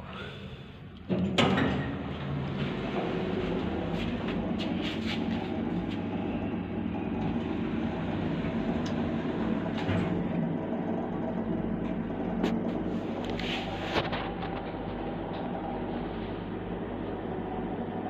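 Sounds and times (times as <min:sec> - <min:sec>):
elevator hum and rumble: 0:00.0 - 0:18.0.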